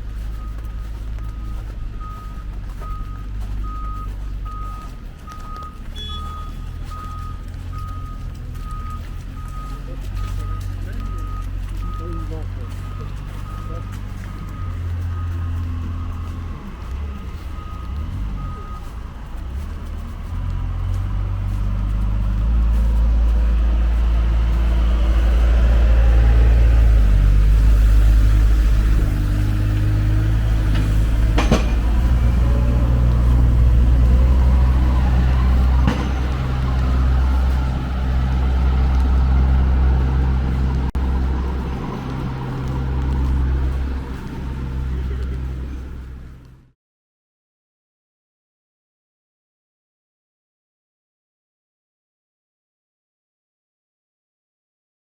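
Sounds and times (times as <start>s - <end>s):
large vehicle engine humming: 0.0s - 46.8s.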